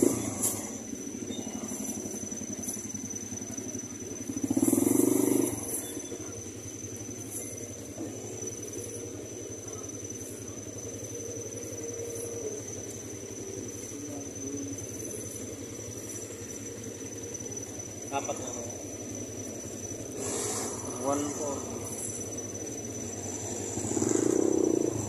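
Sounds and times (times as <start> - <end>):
small engine passing by: 0.0 - 25.0.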